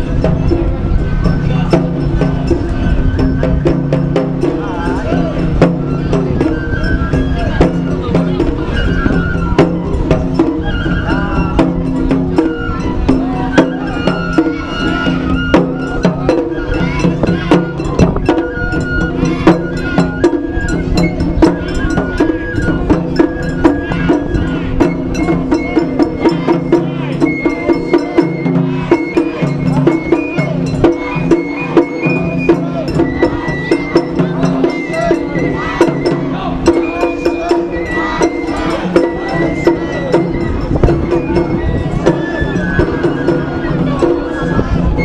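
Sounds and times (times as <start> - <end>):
fast percussion and drumming: 0.0 - 45.0
high held melody: 0.0 - 45.0.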